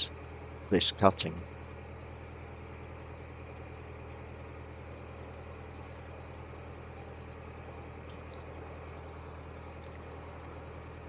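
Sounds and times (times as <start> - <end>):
boat diesel engine humming: 0.0 - 11.0.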